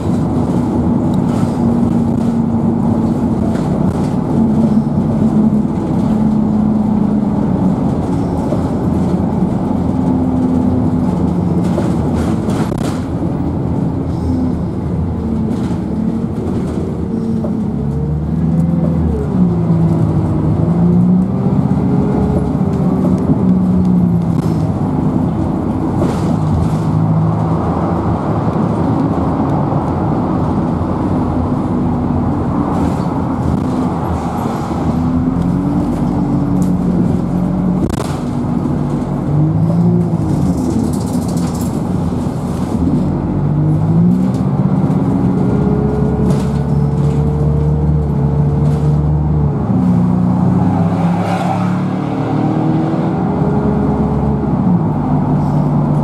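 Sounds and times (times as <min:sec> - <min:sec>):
bus body rattling: 0:00.0 - 0:51.0, 0:53.0 - 0:56.0
bus diesel engine: 0:00.0 - 0:56.0
road noise: 0:00.0 - 0:56.0.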